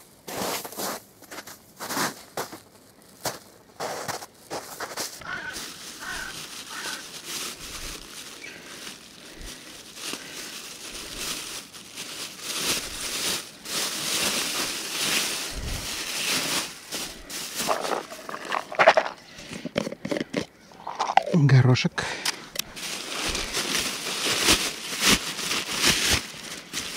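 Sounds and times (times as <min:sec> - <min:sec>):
plastic bag rustling: 0:00.0 - 0:21.6, 0:22.4 - 0:26.9.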